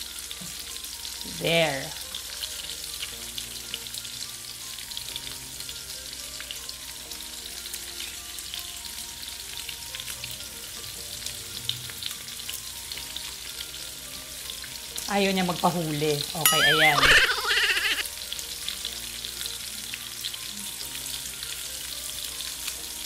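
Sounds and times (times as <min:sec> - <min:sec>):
shrimp sizzling in oil: 0:00.0 - 0:23.0.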